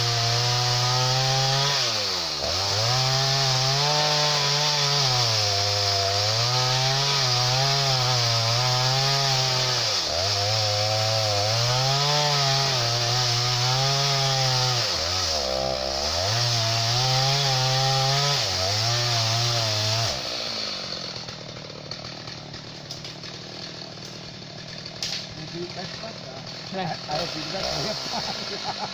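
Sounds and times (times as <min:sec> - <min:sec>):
chainsaw cutting wood: 0:00.0 - 0:28.9.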